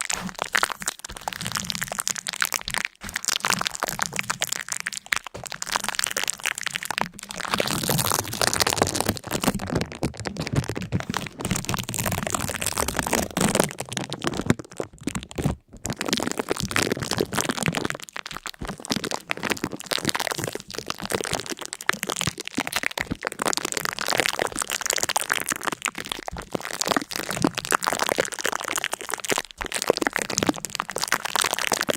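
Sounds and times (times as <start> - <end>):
dense crackling and crunching: 0.0 - 31.9.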